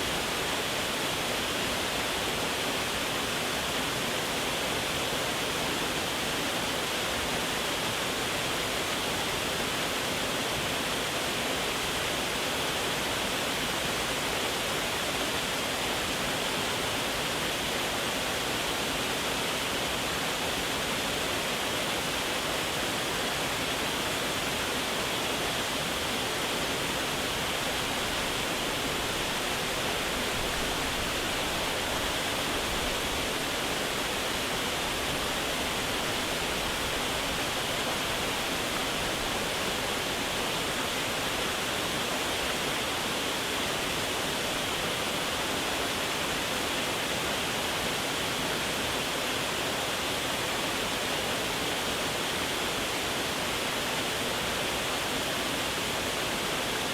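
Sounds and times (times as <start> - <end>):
waterfall roaring: 0.0 - 56.9.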